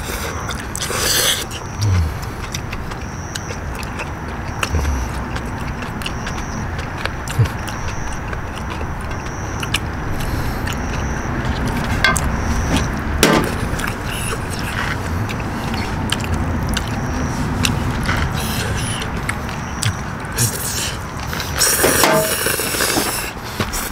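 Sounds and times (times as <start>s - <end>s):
steady background noise: 0.0s - 23.9s.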